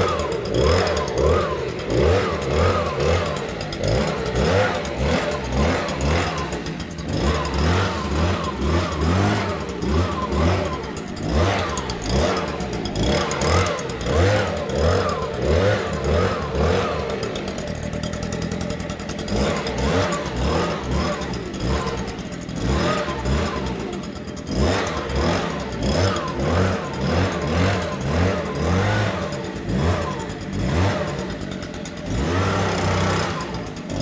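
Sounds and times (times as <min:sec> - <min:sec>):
leaf blower engine revving: 0:00.0 - 0:34.0.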